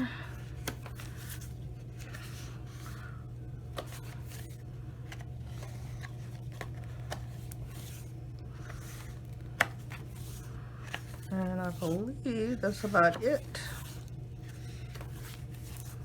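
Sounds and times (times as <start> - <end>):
steady low hum: 0.0 - 16.0
paper pages rustling: 0.4 - 3.0, 3.7 - 16.0.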